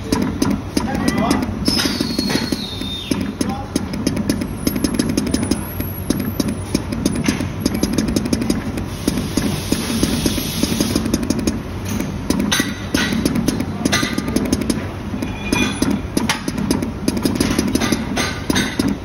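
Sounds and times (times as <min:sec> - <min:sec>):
machine running noise: 0:00.0 - 0:19.0
rapid irregular clicking: 0:00.0 - 0:19.0.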